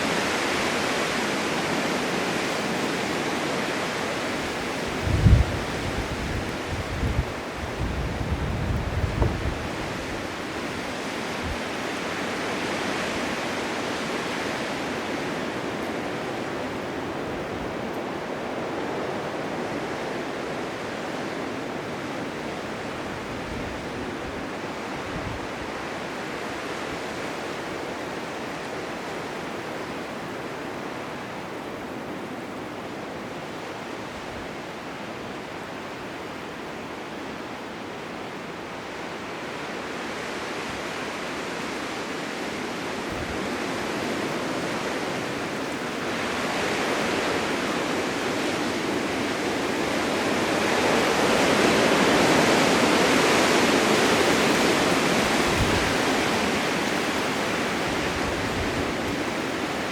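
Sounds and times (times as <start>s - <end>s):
wind gusts buffeting microphone: 0.0s - 34.8s, 38.8s - 59.9s
blizzard wind rushing: 0.0s - 59.9s.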